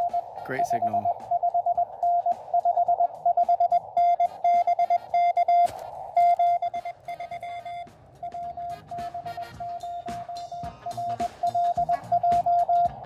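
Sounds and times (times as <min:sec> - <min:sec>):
faint radio band hiss: 0:00.0 - 0:12.2
morse code beeps: 0:00.0 - 0:13.0.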